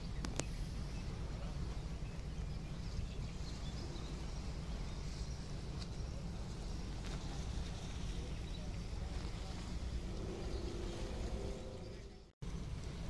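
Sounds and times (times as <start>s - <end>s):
ferry engine rumble: 0.0s - 13.0s.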